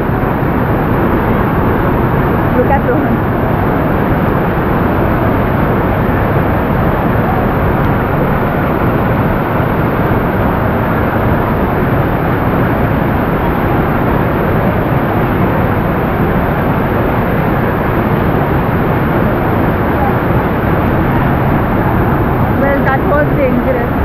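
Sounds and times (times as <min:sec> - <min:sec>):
waterfall rushing: 0:03.4 - 0:24.0.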